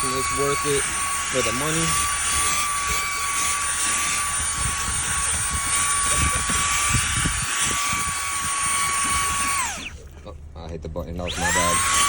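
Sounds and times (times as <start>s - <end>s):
handheld vacuum whining: 0.0s - 10.2s, 11.2s - 12.0s
nozzle scraping over carpet: 0.0s - 10.4s.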